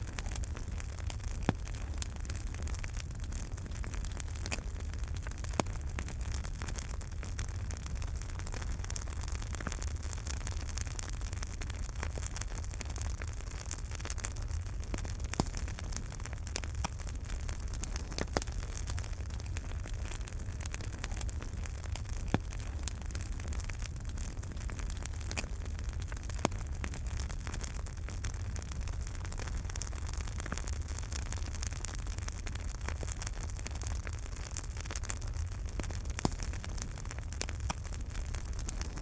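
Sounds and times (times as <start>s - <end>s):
fire low rumble and hiss: 0.0s - 39.0s
wood fire crackling and popping: 0.0s - 39.0s.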